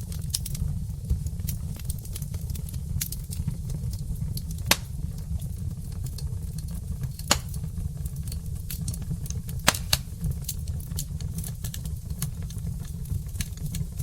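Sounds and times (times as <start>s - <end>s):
fire pops: 0.0s - 14.0s
wood fire crackling: 0.0s - 14.0s.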